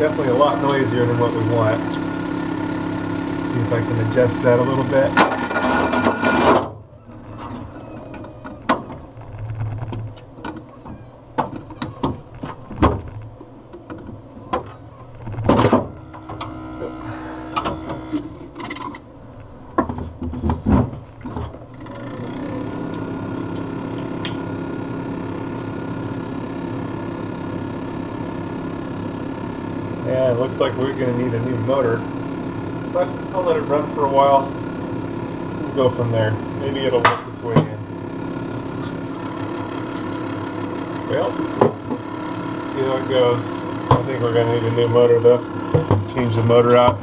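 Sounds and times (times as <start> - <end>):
fan motor buzzing: 0.0 - 47.0.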